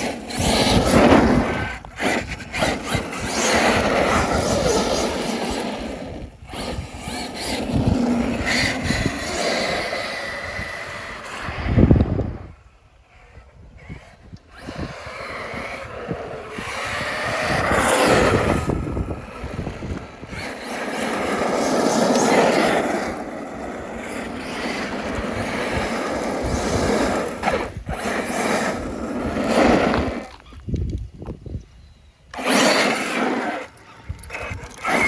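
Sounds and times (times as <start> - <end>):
electric rc truck rushing past: 0.0 - 31.0, 32.3 - 35.0
wind buffeting microphone: 0.0 - 35.0.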